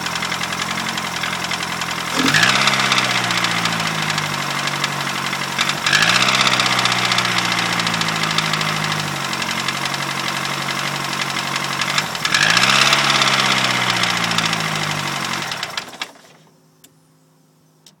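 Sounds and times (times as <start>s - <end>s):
knocking car engine revving: 0.0s - 16.2s.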